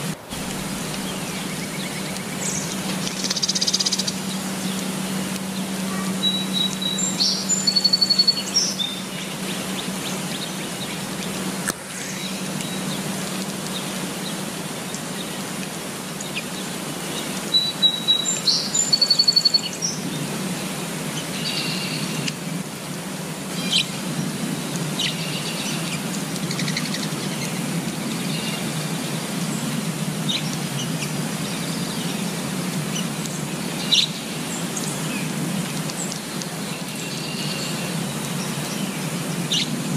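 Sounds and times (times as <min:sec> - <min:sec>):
rain falling on leaves: 0:00.0 - 0:39.9
songbirds chirping: 0:00.1 - 0:22.8, 0:23.5 - 0:39.9.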